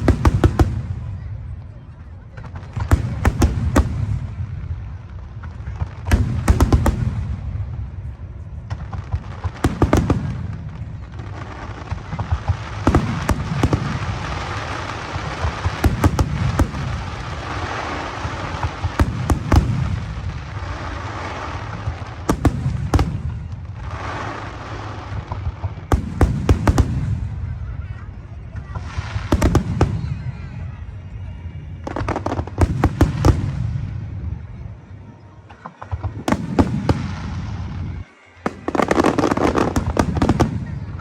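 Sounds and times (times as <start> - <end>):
fireworks bangs and booms: 0.0 - 41.0.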